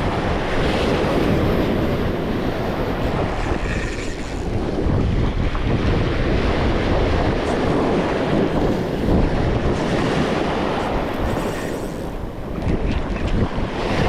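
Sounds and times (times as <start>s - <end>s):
ocean surf washing in: 0.0s - 14.0s
wind buffeting microphone: 0.0s - 14.0s.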